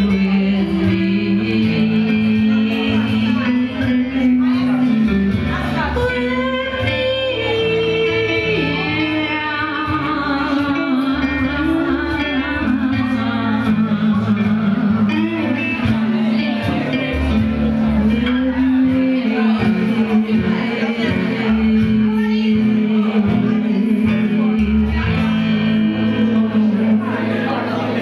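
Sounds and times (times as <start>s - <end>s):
cajon beat: 0.0s - 28.0s
electric guitar: 0.0s - 28.0s
strummed acoustic guitar: 0.0s - 28.0s.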